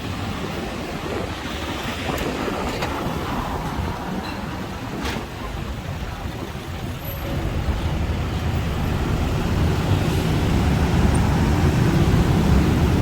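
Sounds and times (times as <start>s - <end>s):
road traffic noise: 0.0s - 13.0s
heavy vehicle engine rumble: 0.1s - 13.0s.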